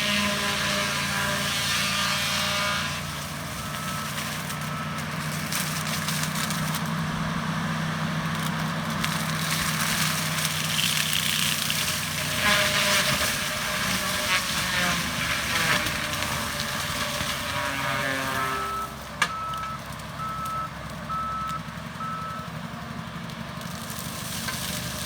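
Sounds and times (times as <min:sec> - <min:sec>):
diesel engine running: 0:00.0 - 0:25.0
mulcher grinding wood: 0:00.0 - 0:25.0.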